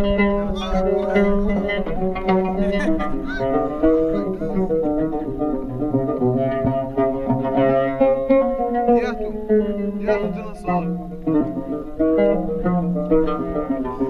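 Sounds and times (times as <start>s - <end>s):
stringed instrument melody: 0.0s - 14.0s.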